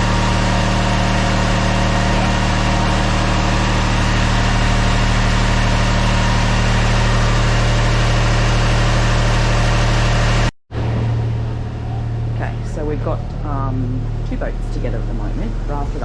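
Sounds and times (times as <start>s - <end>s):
engine humming at idle: 0.0s - 16.0s.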